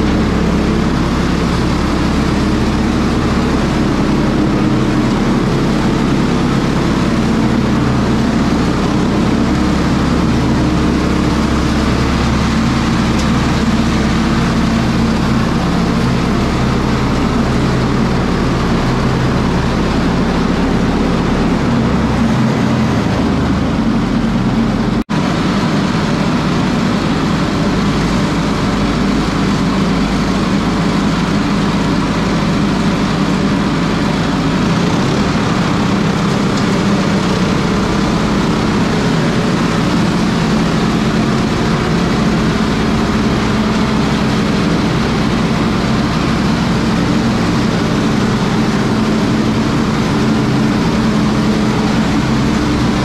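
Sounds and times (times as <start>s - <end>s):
small gas engine running: 0.0s - 53.0s.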